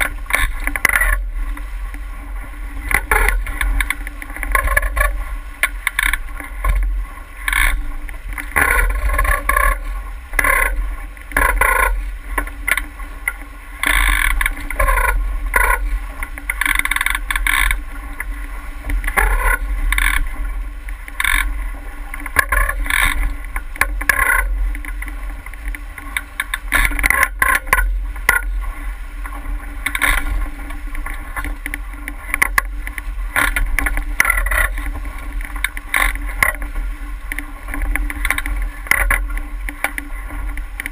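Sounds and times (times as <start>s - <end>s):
hull and rigging knocks: 0.0s - 2.1s, 2.7s - 40.9s
water splashes: 0.0s - 40.9s.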